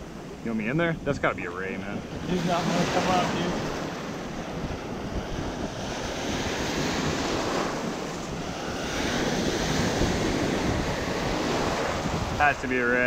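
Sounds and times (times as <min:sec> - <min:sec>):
ocean surf breaking: 0:00.0 - 0:13.0
wind noise on microphone: 0:00.9 - 0:13.0.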